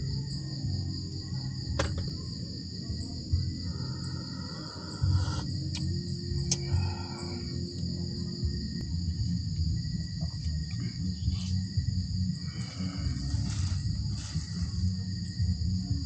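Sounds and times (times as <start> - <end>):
background music: 0.0 - 16.0
crickets trilling: 0.0 - 16.0.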